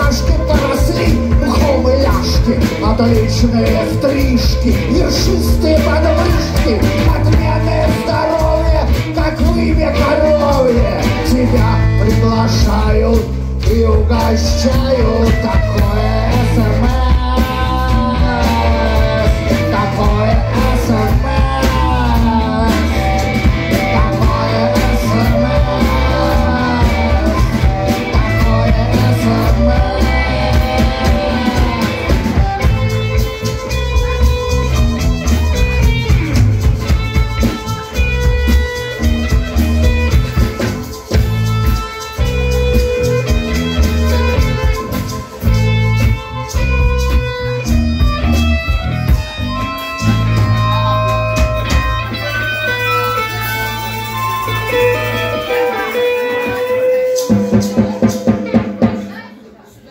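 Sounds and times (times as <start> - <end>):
harmonica: 0.0 - 59.3
live rock band: 0.0 - 59.9.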